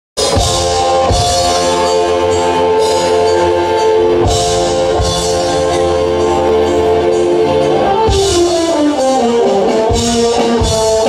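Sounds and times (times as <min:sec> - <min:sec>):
rock band playing: 0:00.2 - 0:11.0.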